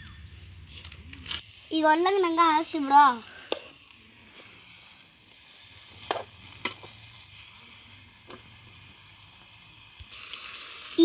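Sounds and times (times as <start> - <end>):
vegetables sizzling in oil: 1.2 - 11.0.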